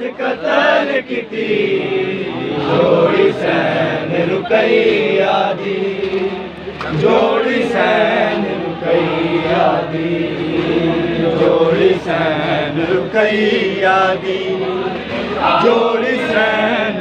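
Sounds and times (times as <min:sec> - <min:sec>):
men chanting in chorus: 0:00.0 - 0:17.0.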